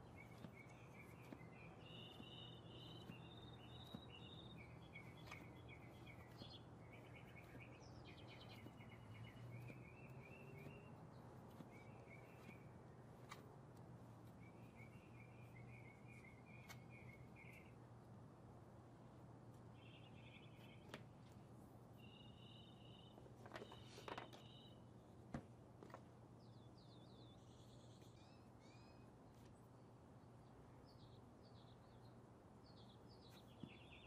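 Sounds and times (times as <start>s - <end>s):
low steady hum: 0.0s - 34.0s
songbirds chirping trills: 0.0s - 34.0s.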